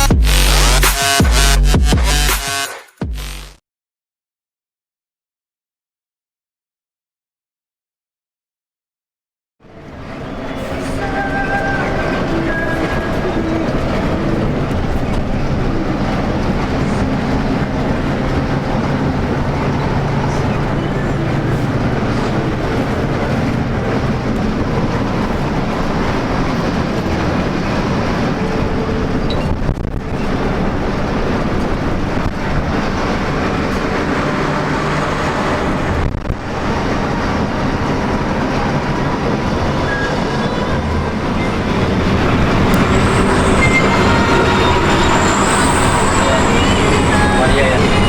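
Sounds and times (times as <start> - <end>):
road rumble: 0.0 - 2.4, 9.6 - 48.0
bus engine drone: 0.0 - 2.6, 9.6 - 48.0.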